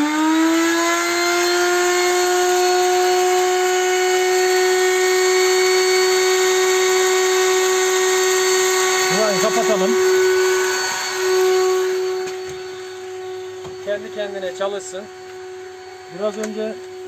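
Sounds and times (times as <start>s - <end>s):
electric grinder motor whine: 0.0s - 17.0s.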